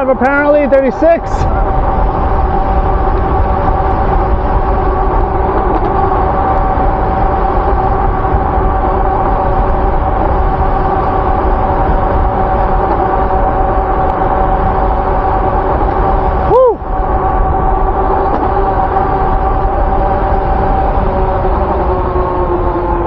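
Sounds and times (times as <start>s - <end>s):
wind rumble on microphone: 0.0s - 23.0s
electric motor whining: 1.2s - 23.0s.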